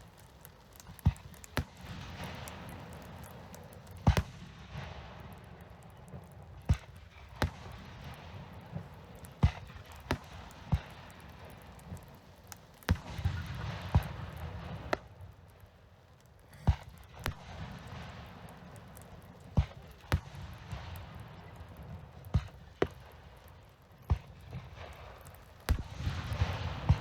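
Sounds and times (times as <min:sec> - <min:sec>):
firework shells bursting: 0:00.0 - 0:15.6, 0:16.2 - 0:27.0.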